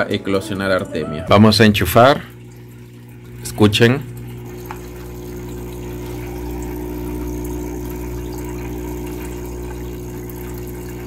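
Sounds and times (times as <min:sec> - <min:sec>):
aquarium air pump humming: 0:00.0 - 0:11.0.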